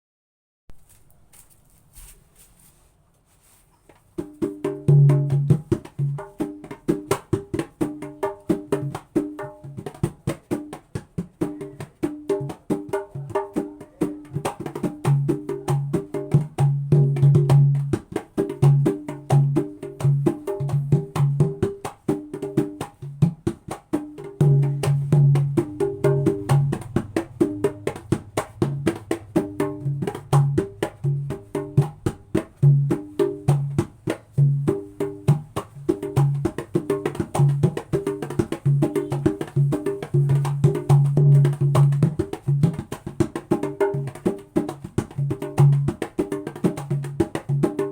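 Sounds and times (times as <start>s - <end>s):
hand drum slaps and bass strokes: 3.4s - 47.9s.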